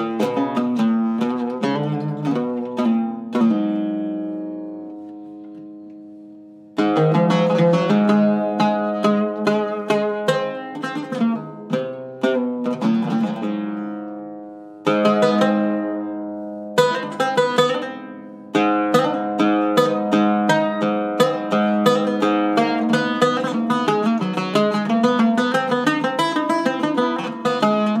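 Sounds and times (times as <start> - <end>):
oud picked with a plectrum: 0.0 - 28.0.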